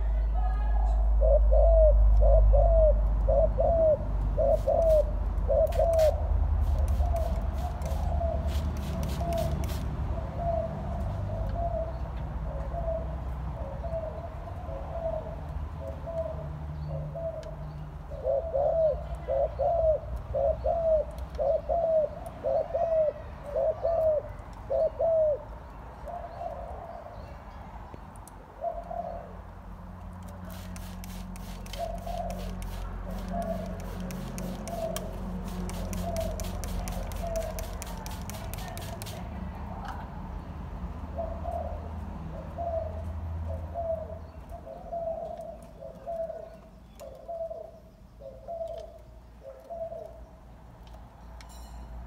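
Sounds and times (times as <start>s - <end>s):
dove cooing: 1.1s - 17.5s, 18.1s - 27.0s, 28.6s - 29.4s, 30.5s - 39.1s, 41.2s - 50.2s.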